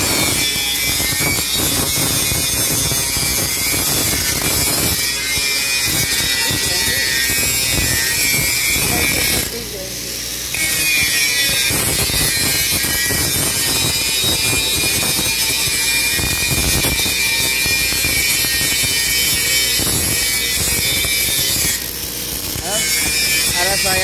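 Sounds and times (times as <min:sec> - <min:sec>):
arc welding crackling sizzle: 0:00.0 - 0:24.0.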